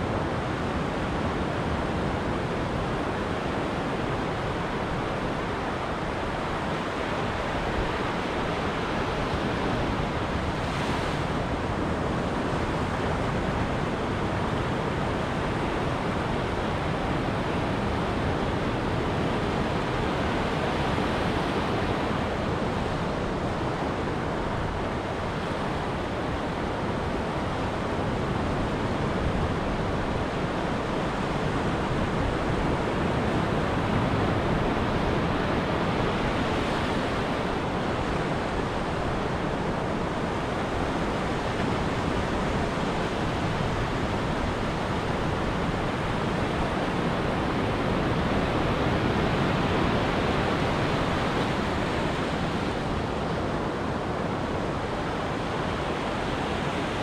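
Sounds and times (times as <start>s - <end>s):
ocean surf on a beach: 0.0s - 57.0s.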